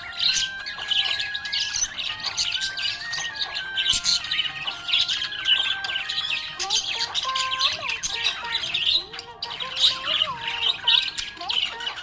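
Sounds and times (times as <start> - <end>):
background music with gliding notes: 0.0 - 12.0
budgerigars chirping: 0.0 - 12.0.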